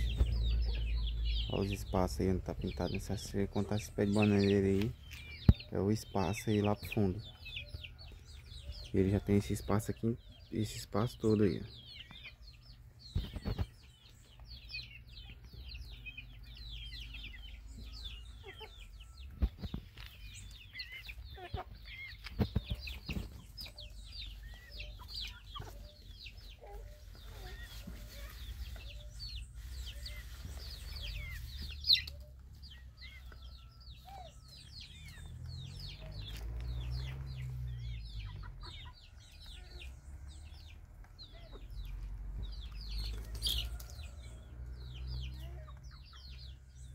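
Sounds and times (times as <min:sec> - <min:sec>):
chickens clucking: 0:00.0 - 0:46.9
chicks peeping: 0:00.0 - 0:46.9.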